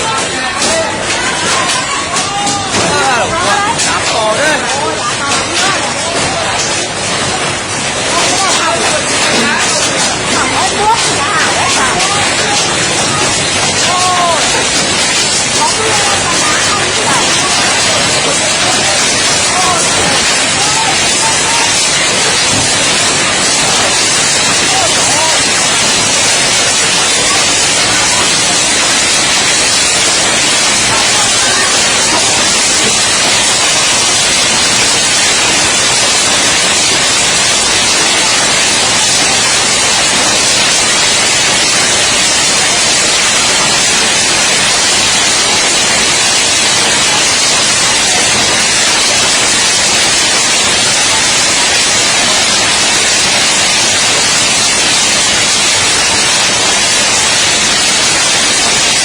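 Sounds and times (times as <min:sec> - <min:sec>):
heavy hail and rain: 0:00.0 - 0:59.0.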